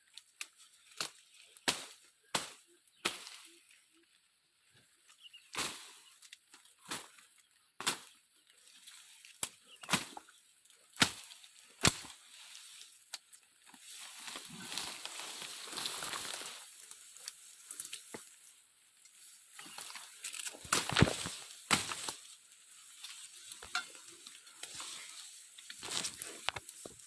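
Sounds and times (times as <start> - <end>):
twigs snapping: 0.0 - 3.6, 5.1 - 18.4, 19.0 - 27.0
leafy brush rustling: 5.0 - 27.0.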